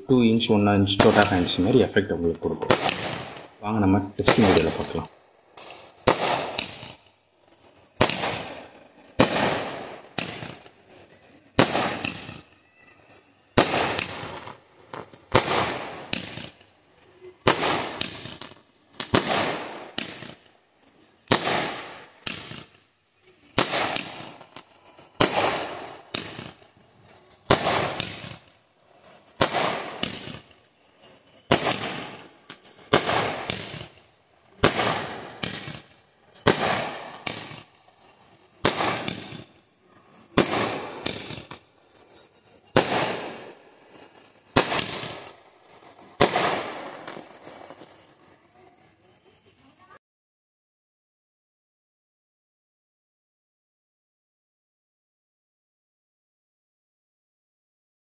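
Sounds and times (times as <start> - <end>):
fireworks bangs with crackle: 0.4 - 50.0.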